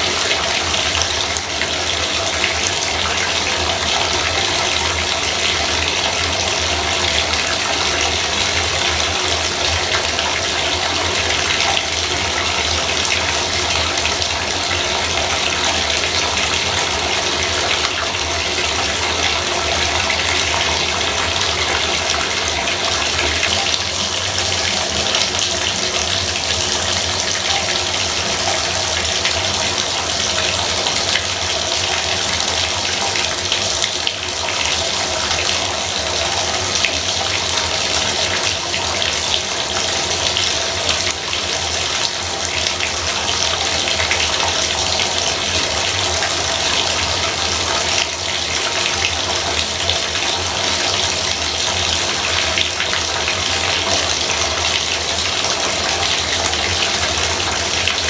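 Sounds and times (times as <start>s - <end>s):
faucet water splashing into tub: 0.0s - 58.0s.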